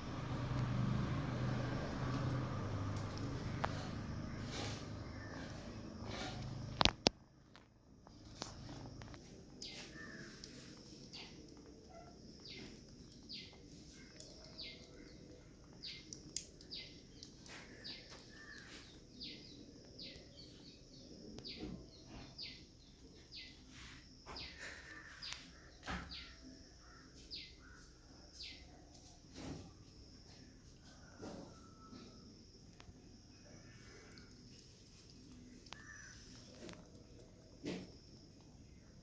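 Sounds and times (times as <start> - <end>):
small bird chirping: 1.5 - 7.1, 8.1 - 29.2, 30.2 - 39.0.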